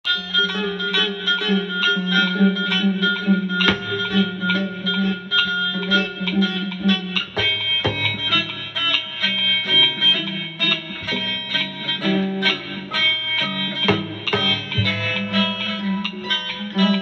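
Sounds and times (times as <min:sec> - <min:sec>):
pop music with plucked guitar: 0:00.0 - 0:17.0.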